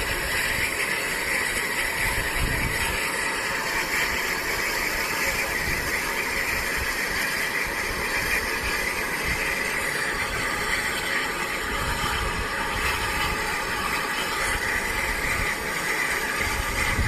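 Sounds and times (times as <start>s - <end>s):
steam hissing from locomotive: 0.0s - 17.0s.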